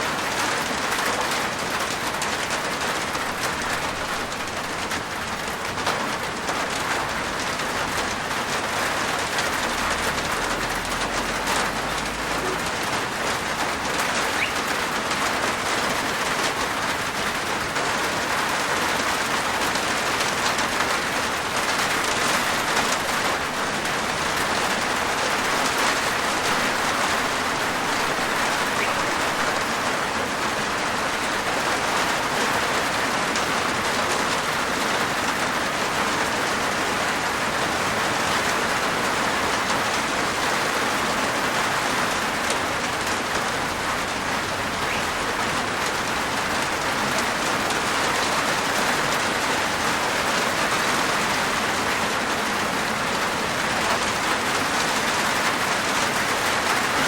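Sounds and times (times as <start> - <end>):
rain on a rooftop: 0.0 - 57.0.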